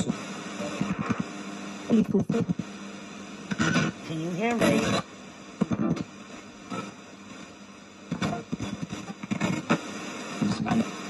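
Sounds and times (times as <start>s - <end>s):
chopped snatches of broadcast audio: 0.0s - 2.8s, 3.4s - 11.0s
radio static hiss: 0.0s - 11.0s.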